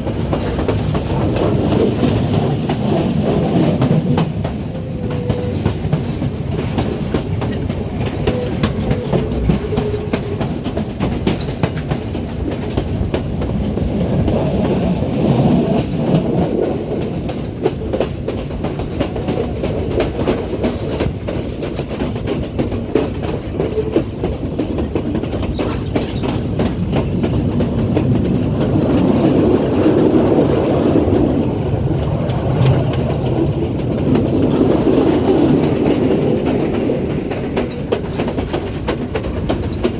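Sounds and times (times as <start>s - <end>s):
train rumbling: 0.0s - 39.9s
wheels clacking over rail joints: 0.0s - 39.9s.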